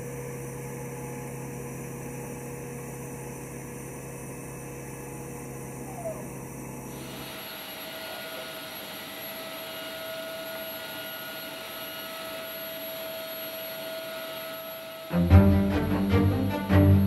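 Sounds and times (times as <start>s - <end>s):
mid-pitched whine: 0.0s - 17.0s
faint high whine: 0.1s - 17.0s.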